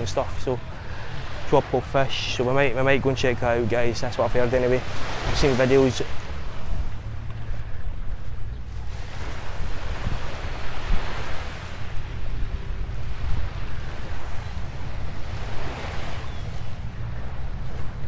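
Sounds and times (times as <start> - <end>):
surf washing on beach: 0.0 - 18.0
wind buffeting microphone: 0.0 - 18.0.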